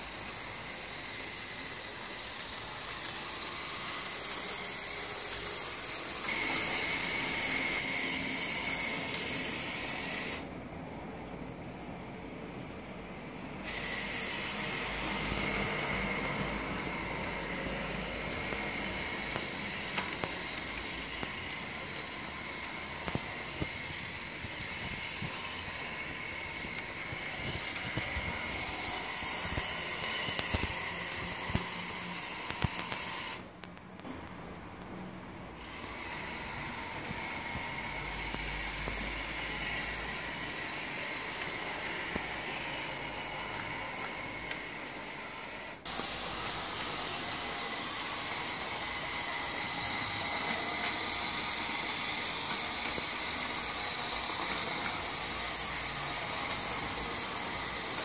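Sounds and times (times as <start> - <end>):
model tram motor whirring: 0.0 - 10.5, 13.6 - 33.5, 35.6 - 58.0.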